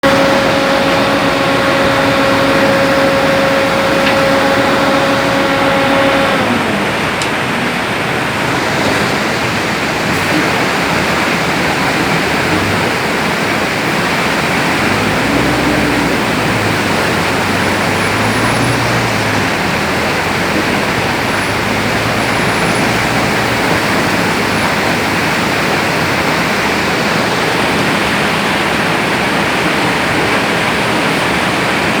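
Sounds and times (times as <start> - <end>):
load rushing from dump truck: 0.0 - 32.0
low engine hum: 0.0 - 32.0.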